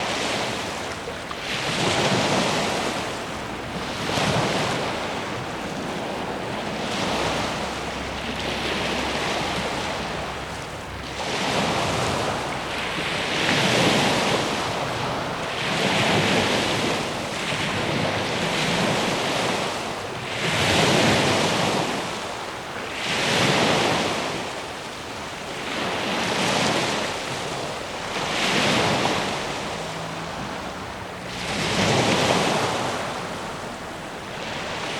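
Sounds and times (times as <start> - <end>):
gentle ocean waves: 0.0 - 34.9.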